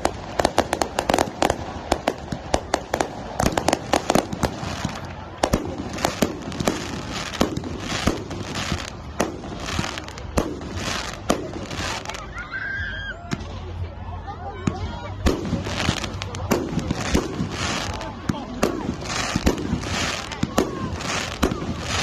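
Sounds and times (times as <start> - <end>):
fireworks bangs and pops: 0.0 - 12.3, 14.6 - 22.0.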